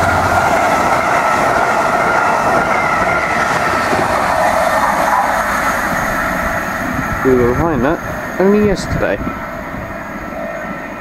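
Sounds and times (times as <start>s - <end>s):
train coaches rushing past: 0.0s - 11.0s.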